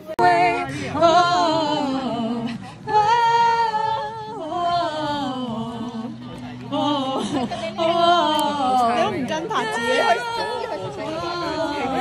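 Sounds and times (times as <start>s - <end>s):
women singing unaccompanied: 0.0s - 12.0s.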